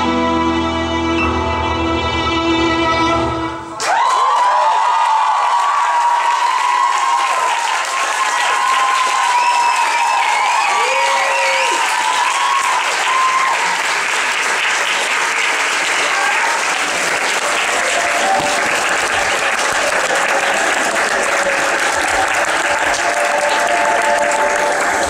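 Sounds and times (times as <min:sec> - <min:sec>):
audience applauding: 0:03.8 - 0:25.0.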